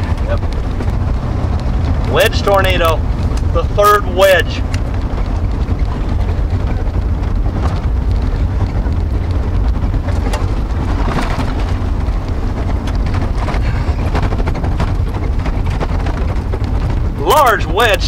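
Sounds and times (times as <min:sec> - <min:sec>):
car driving on rough road: 0:00.0 - 0:18.0
raindrops ticking on car: 0:00.0 - 0:18.0.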